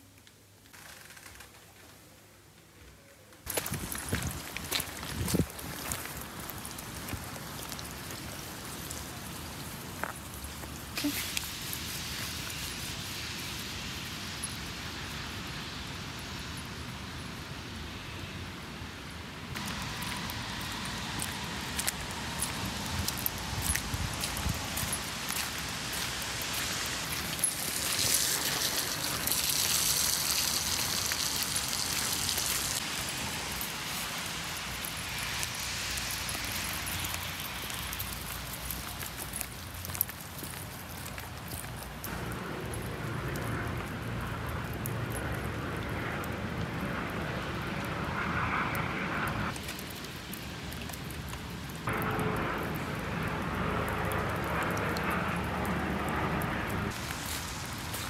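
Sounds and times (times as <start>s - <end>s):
distant traffic hum: 0.4s - 58.0s
rain hissing: 3.5s - 45.2s, 49.4s - 58.0s.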